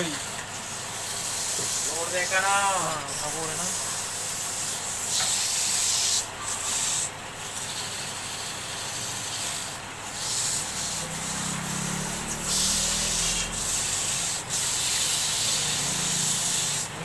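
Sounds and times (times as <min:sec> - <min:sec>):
lathe tool hissing on spinning wood: 0:00.0 - 0:17.0.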